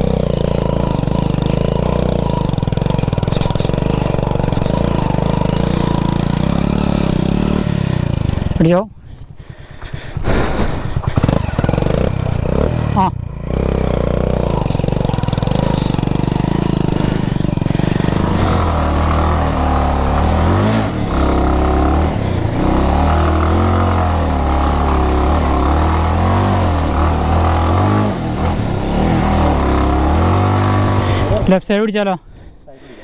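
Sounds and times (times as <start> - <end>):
motorcycle engine revving: 0.0 - 9.5, 10.1 - 31.6.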